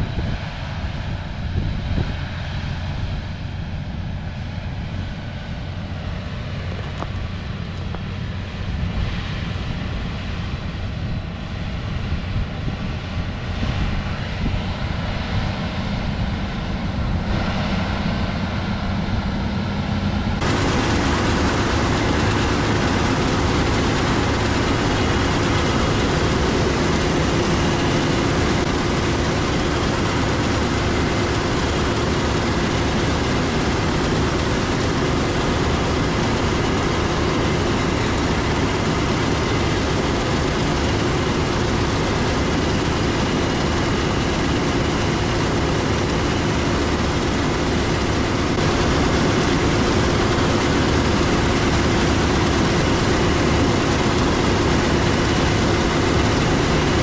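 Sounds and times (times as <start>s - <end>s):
diesel machinery running under load: 0.0s - 57.0s
hissy machine noise with hum: 0.0s - 57.0s.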